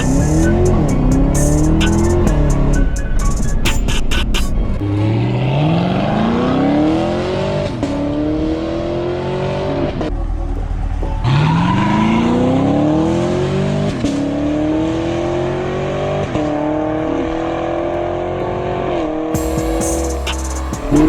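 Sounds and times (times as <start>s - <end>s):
car engine accelerating hard: 0.0s - 3.4s, 4.5s - 21.0s.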